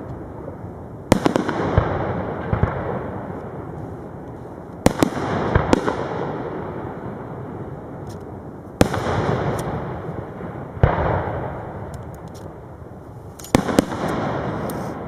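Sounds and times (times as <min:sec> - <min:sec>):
rolling echo: 0:00.0 - 0:15.0.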